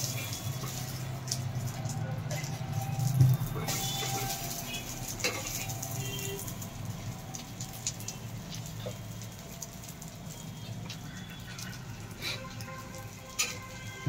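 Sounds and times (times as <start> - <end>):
omelette sizzling in oil: 0.0 - 14.0.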